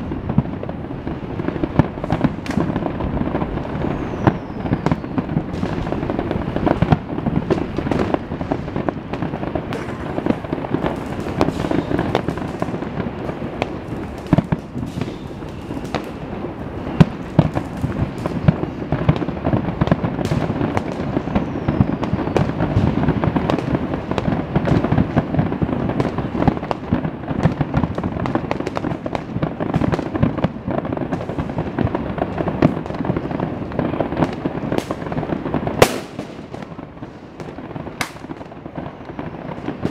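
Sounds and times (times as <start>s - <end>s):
firework bangs: 0.0s - 39.9s
fireworks rumbling and crackling: 0.0s - 39.9s.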